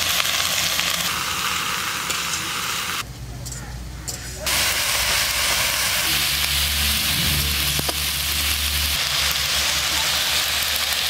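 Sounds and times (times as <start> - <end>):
leaves sizzling in a wok: 0.0 - 3.0, 4.3 - 11.0.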